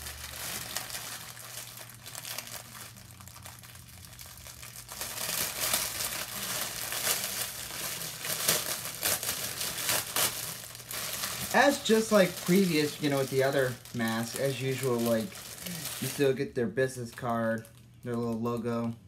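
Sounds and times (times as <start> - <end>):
plastic wrapper crinkling: 0.0 - 19.0.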